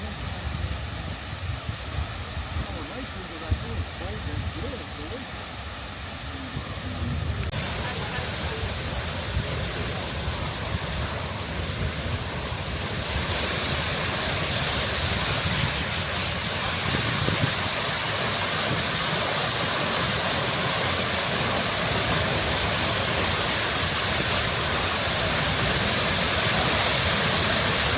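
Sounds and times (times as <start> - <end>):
waterfall roaring onto rock: 0.0 - 27.9.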